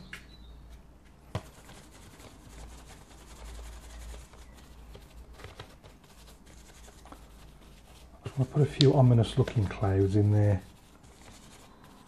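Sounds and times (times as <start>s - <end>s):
steady low hum: 0.0s - 12.0s
soft rustling and scraping: 0.7s - 12.0s.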